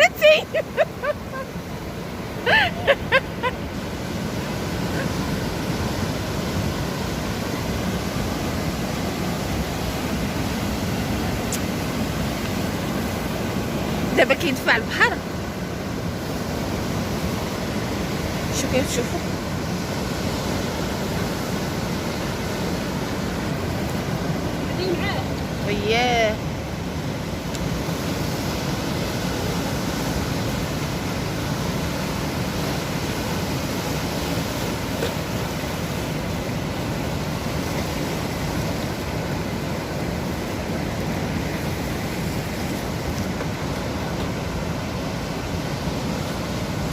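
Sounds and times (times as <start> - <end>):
sea surf washing onto shore: 0.0 - 46.9.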